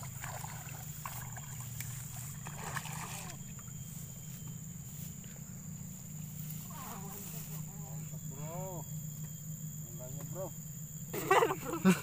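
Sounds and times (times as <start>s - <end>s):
insect chirring: 0.0s - 12.0s
low steady hum: 0.0s - 12.0s.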